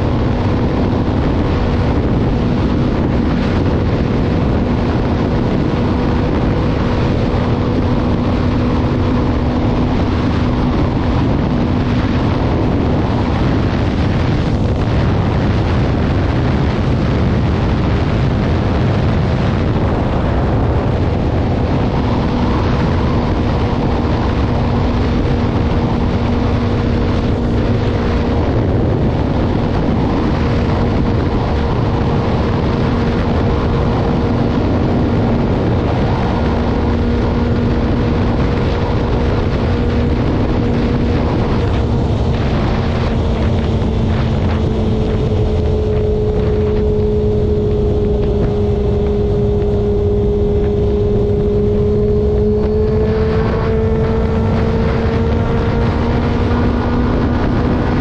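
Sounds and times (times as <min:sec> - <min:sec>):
motorcycle engine hum: 0:00.0 - 0:58.0
wind buffeting microphone: 0:00.0 - 0:58.0.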